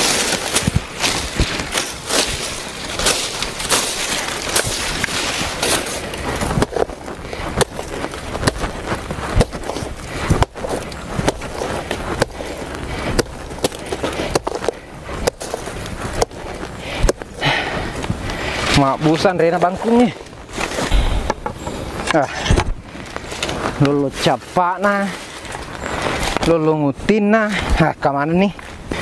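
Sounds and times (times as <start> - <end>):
dry leaves rustling and snapping: 0.0 - 26.9.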